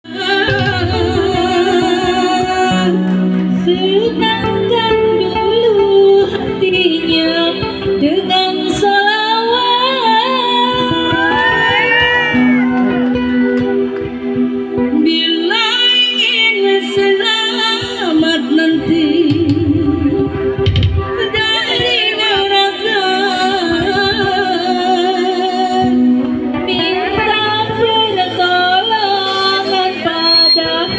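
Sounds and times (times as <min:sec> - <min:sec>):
woman singing: 0:00.0 - 0:12.7, 0:14.8 - 0:30.9
backing music: 0:00.0 - 0:30.9.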